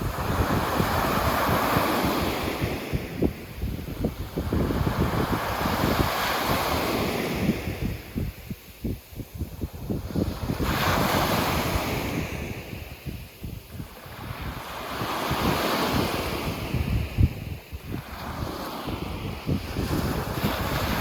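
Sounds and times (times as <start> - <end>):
waves breaking on beach: 0.0 - 21.0
wind buffeting microphone: 0.0 - 21.0.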